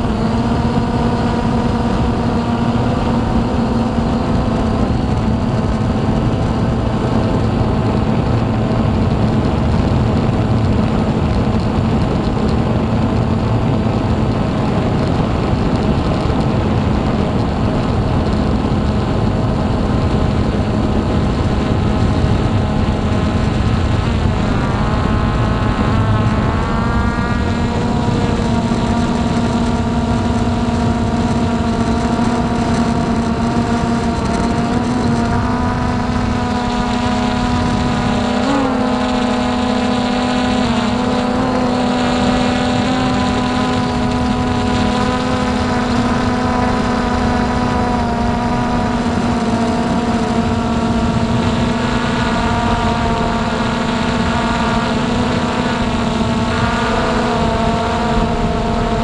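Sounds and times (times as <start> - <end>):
low rumble: 0.0 - 54.5
quadcopter motors whining: 0.0 - 59.0.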